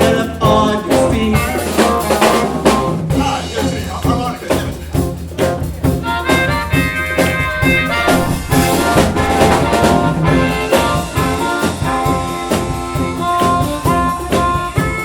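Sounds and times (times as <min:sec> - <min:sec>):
blues-funk band playing: 0:00.0 - 0:15.0.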